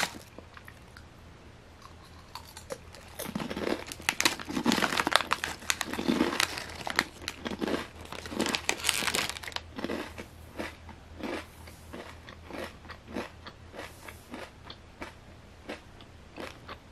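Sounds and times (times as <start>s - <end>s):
chips crunching while chewed: 0.0s - 1.0s, 1.8s - 16.8s.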